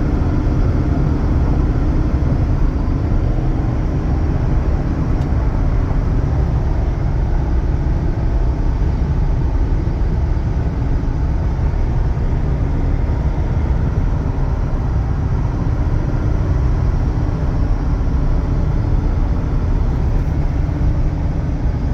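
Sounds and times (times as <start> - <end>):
pickup truck engine rumbling: 0.0 - 21.9.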